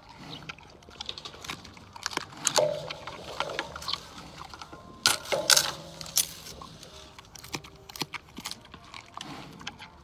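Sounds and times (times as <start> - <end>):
panda crunching bamboo: 0.0 - 10.0.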